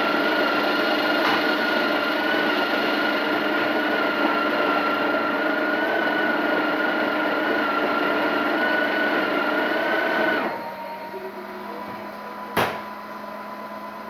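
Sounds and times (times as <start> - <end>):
coffee grinder motor whine: 0.0 - 14.0.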